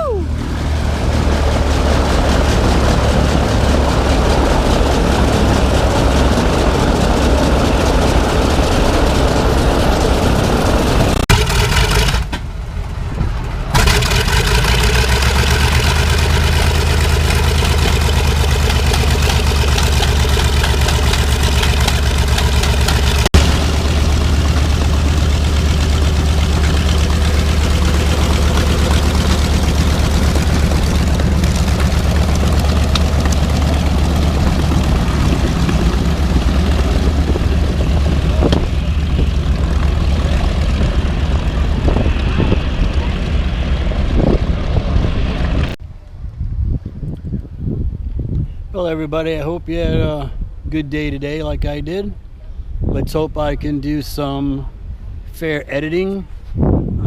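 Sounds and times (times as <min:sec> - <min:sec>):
piston aircraft engine running: 0:00.1 - 0:45.8.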